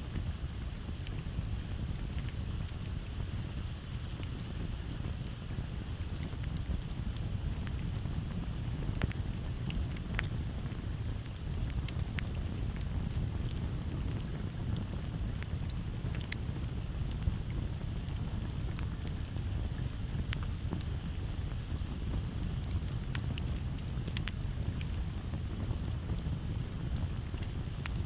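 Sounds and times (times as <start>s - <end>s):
campfire crackling and popping: 0.0s - 28.0s
crickets chirping: 0.1s - 28.0s.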